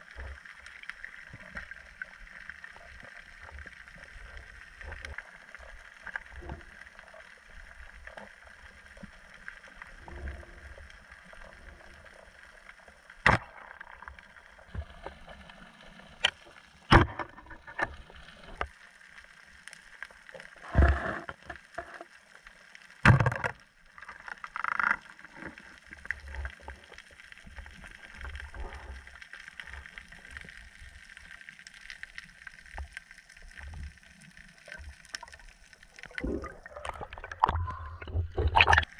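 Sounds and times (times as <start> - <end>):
muffled underwater water wash: 0.0 - 38.9.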